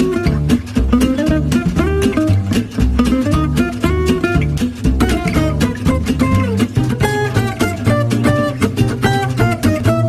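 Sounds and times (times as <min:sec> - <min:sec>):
fast plucked acoustic guitar: 0:00.0 - 0:10.0.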